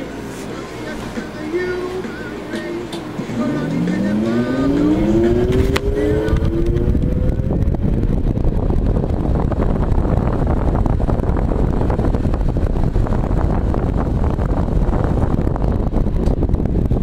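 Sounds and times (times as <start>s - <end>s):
cooling fan rushing air: 0.0s - 17.0s.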